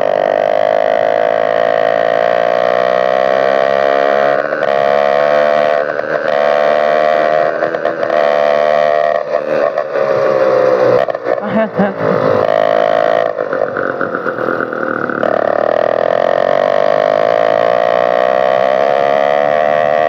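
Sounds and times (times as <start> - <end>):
motorized bicycle engine revving: 0.0 - 20.0.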